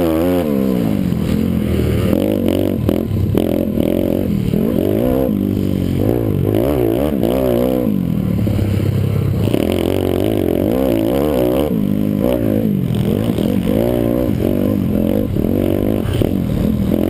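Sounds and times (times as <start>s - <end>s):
pit bike engine revving: 0.0s - 17.0s.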